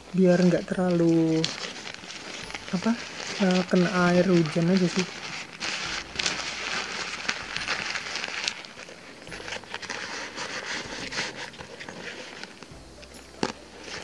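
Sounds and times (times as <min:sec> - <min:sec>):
fabric cover rustling and crinkling: 0:00.0 - 0:14.0.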